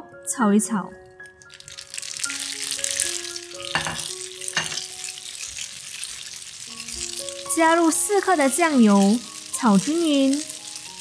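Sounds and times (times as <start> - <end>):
soft background music: 0.0 - 11.0
noodles sizzling in hot oil: 1.0 - 11.0
spatula clacking: 1.0 - 11.0.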